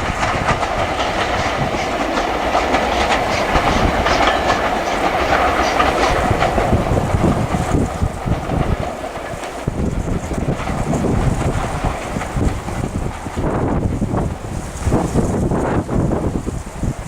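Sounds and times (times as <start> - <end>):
carriage wheels clicking over rail joints: 0.0 - 15.4
steam train passing: 0.0 - 17.0.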